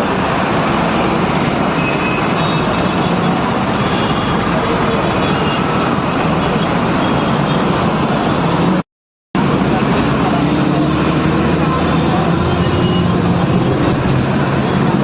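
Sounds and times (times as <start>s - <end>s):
dense road traffic: 0.0s - 15.0s.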